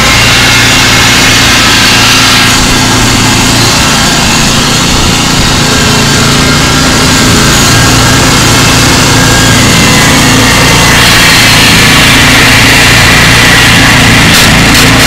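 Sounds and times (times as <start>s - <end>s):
small engine running loud: 0.0s - 15.0s.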